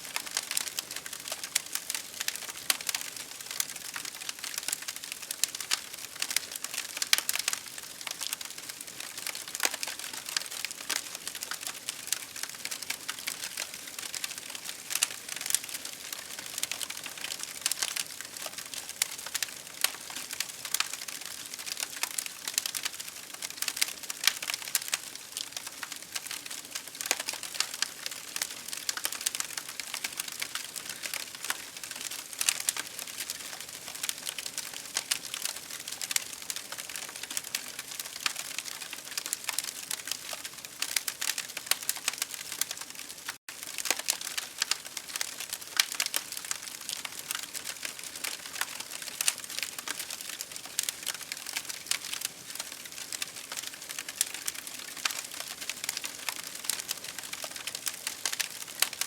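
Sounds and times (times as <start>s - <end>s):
campfire crackling and popping: 0.1s - 59.0s.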